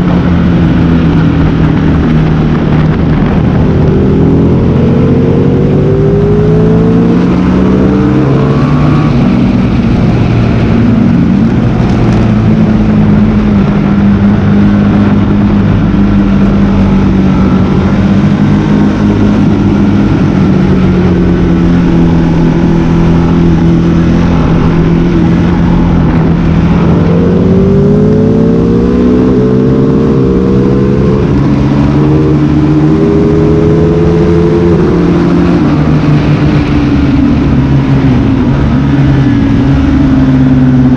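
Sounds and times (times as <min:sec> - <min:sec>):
motorcycle engine accelerating: 0:00.0 - 0:40.9
wind rush: 0:00.0 - 0:40.9.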